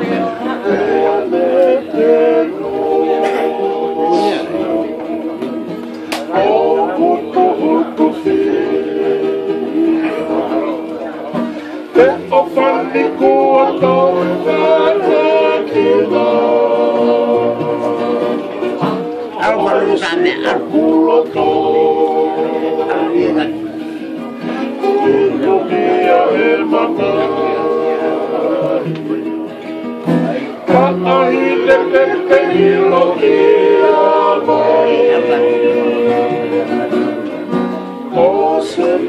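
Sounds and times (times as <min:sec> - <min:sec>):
men singing in harmony: 0:00.0 - 0:29.5, 0:30.4 - 0:39.0
acoustic guitars strummed: 0:00.0 - 0:39.0
ukulele strummed: 0:00.0 - 0:39.0.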